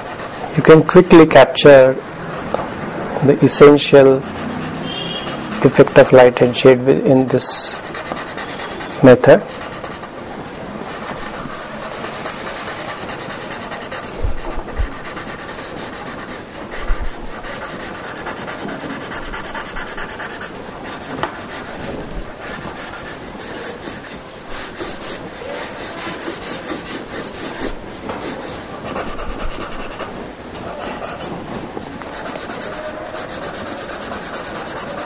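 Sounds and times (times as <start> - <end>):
pencil scratching on paper: 0.0 - 1.2, 3.5 - 10.2, 10.8 - 31.3, 31.9 - 35.0.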